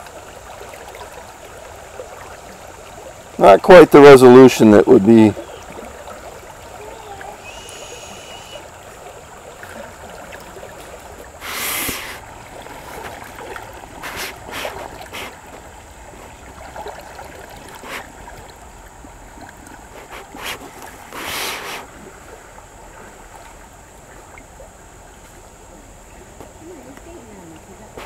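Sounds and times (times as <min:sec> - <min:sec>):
short water splashes: 0:00.0 - 0:25.4
creek water sloshing: 0:00.0 - 0:28.0.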